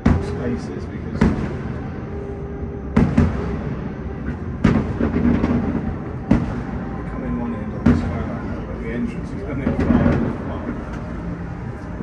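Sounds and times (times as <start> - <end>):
distant fireworks bangs: 0.0 - 11.3.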